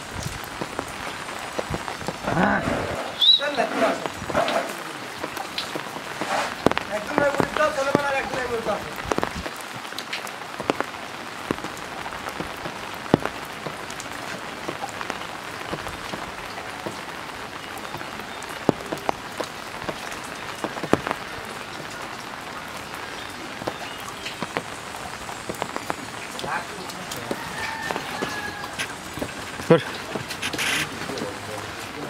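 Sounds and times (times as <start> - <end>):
raindrop taps: 0.0 - 32.0
steady rain falling: 0.0 - 32.0.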